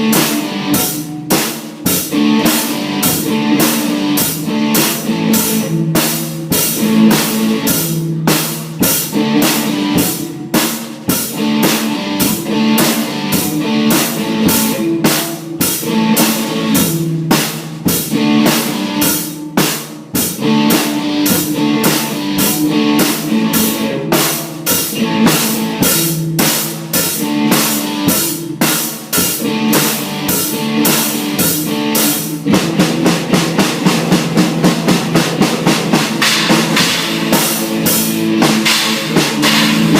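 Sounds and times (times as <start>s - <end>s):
drum kit beat: 0.0s - 39.9s
rock guitar riff: 0.0s - 39.9s.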